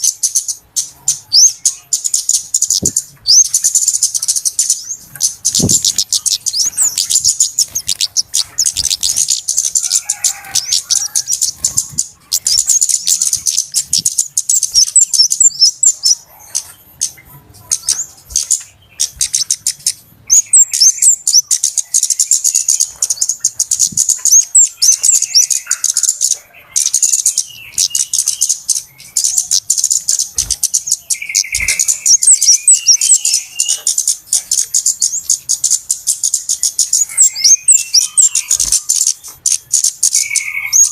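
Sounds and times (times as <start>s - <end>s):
birds calling with high ticking notes: 0.0s - 40.9s.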